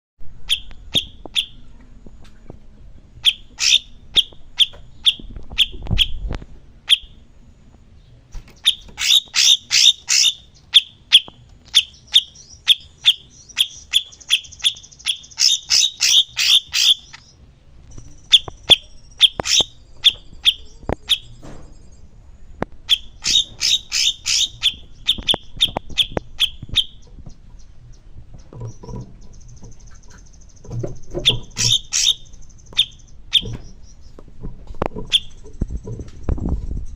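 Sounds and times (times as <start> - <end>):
buzzy bird trill: 0.3 - 1.7, 3.2 - 7.3, 8.0 - 34.2, 35.0 - 36.9
songbird chirping: 0.3 - 36.9.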